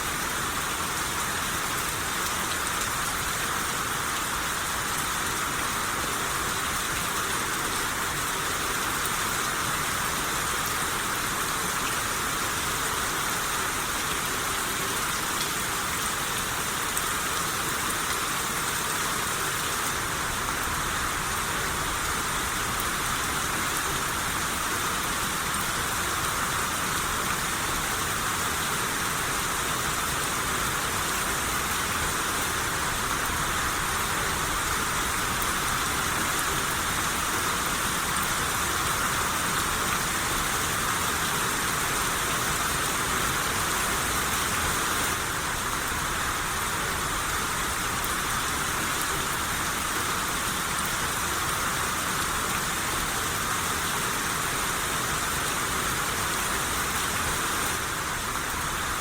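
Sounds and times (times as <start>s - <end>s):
steady rain shower: 0.0s - 59.0s.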